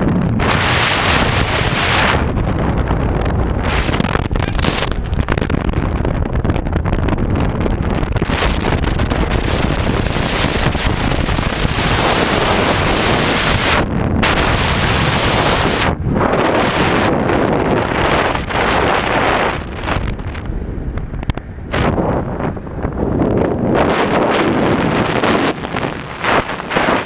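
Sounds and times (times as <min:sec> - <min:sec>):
scooter engine rumble: 0:00.0 - 0:27.0
wind buffeting microphone: 0:00.0 - 0:27.0.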